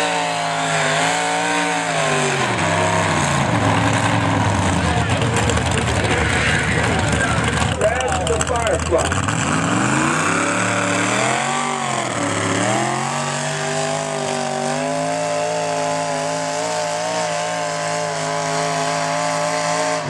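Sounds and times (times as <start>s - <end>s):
tractor engine at high revs: 0.0s - 20.0s.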